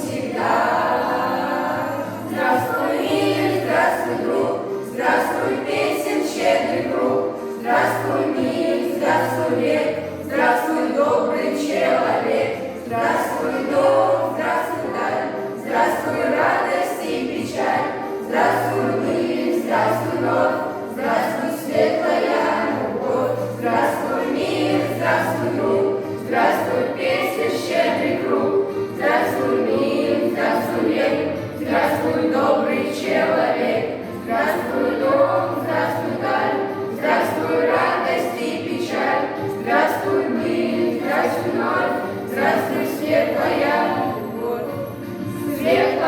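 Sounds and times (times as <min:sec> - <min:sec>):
children singing in chorus: 0:00.0 - 0:46.0.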